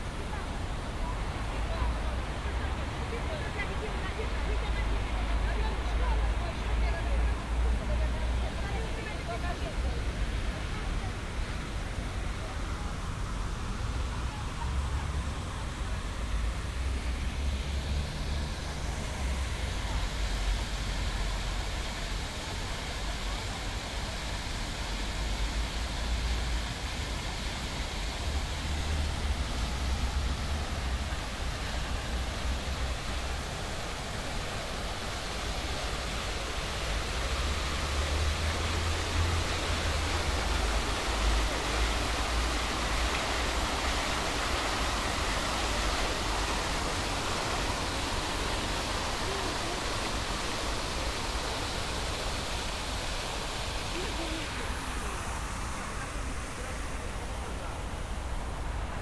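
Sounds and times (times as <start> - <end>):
fountain water splashing: 0.0 - 59.0.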